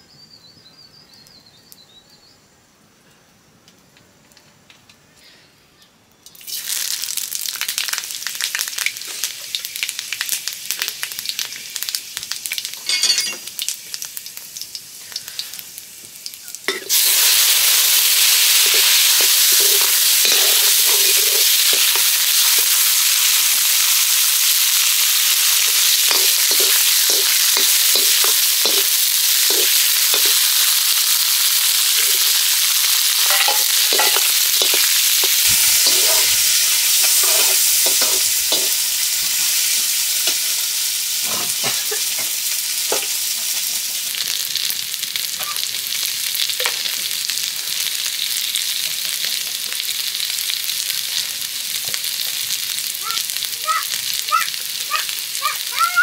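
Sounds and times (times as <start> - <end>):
food sizzling in hot oil: 6.2 - 56.0.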